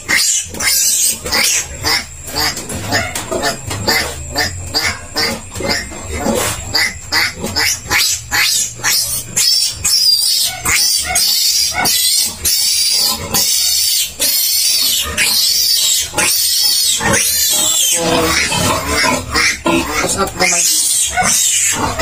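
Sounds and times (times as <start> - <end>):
piglet squealing: 0.0 - 22.0.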